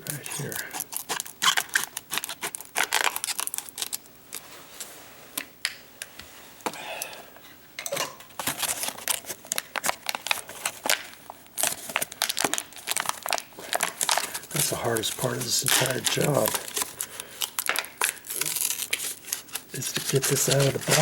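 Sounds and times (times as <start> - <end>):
plastic crinkling: 0.0 - 4.4, 8.4 - 21.0.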